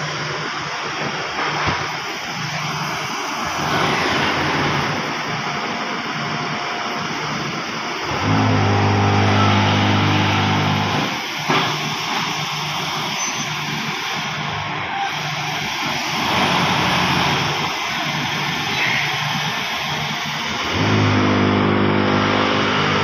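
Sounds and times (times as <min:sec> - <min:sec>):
machinery roaring: 0:00.0 - 0:23.0.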